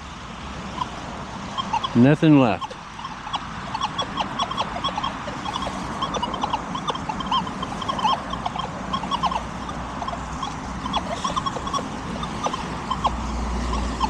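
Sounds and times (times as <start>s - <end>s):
low rumble of road traffic: 0.0s - 14.0s
metal detector squeaky chirps: 1.6s - 14.0s.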